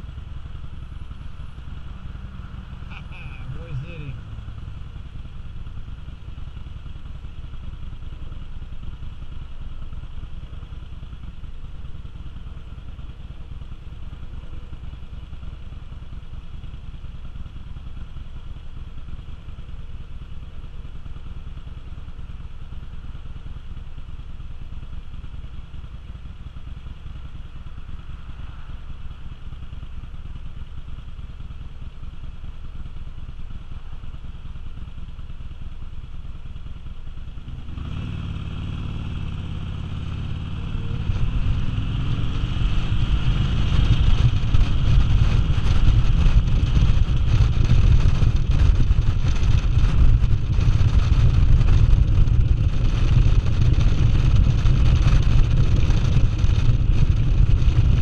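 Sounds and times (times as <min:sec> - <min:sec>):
motorcycle engine idling: 0:00.0 - 0:42.2, 0:43.0 - 0:58.0.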